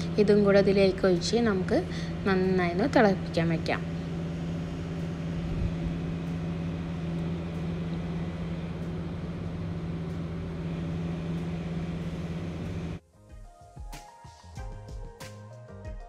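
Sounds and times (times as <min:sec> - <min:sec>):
gas stove hum and hiss: 0:00.0 - 0:15.8.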